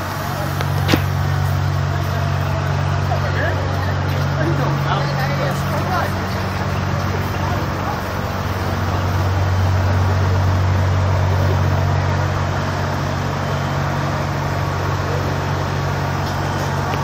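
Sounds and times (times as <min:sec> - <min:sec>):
fire engines running: 0:00.0 - 0:17.0.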